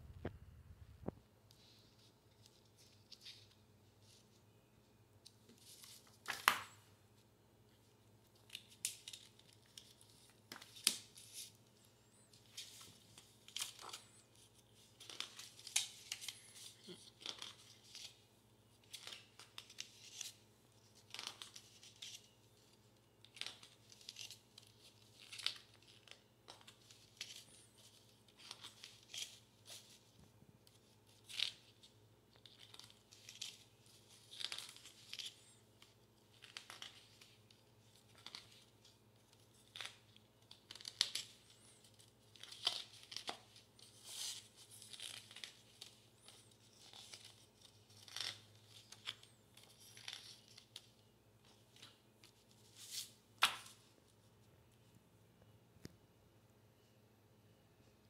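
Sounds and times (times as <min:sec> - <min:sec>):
faint steady hum: 0:00.0 - 0:58.0
comic book pages turning: 0:05.3 - 0:06.8, 0:08.2 - 0:54.2.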